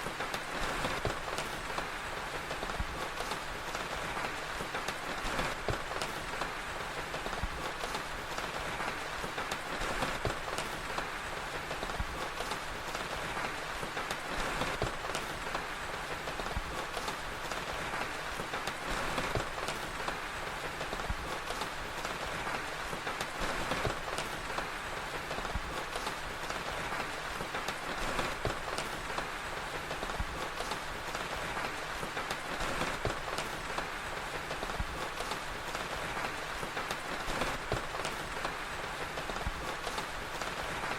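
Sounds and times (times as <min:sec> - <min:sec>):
fire crackling: 0:00.0 - 0:40.9
steady rain hissing: 0:00.0 - 0:40.9.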